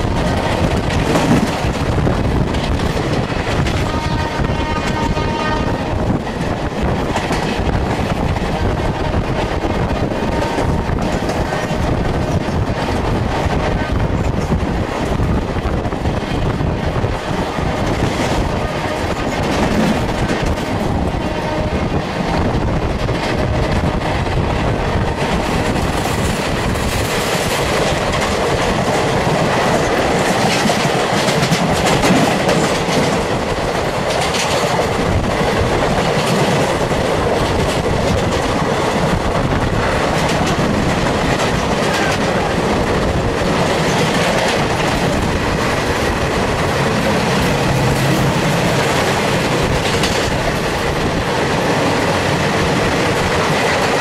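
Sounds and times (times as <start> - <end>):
train coaches rumbling: 0.0 - 54.0
train wheels clattering over joints: 0.0 - 54.0.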